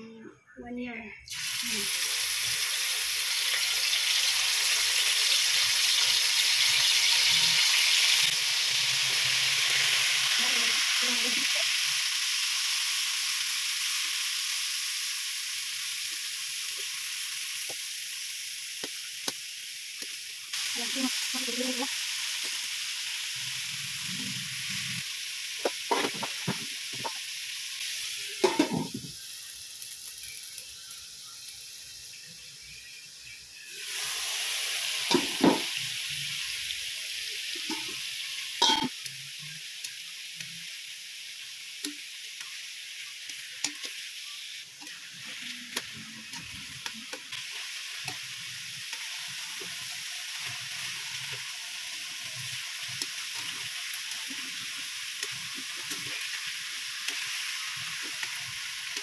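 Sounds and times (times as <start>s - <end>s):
meat sizzling in oil: 1.3s - 59.0s.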